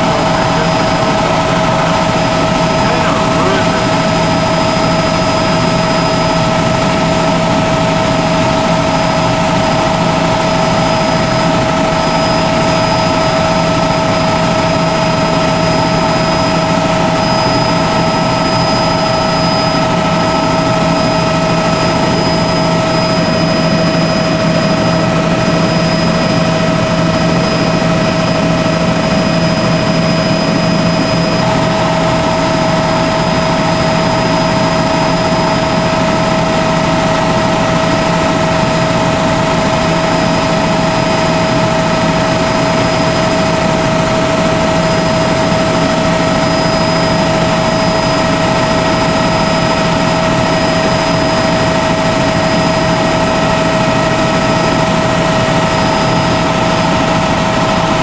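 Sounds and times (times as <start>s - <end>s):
small aircraft engine in cabin: 0.0s - 58.0s.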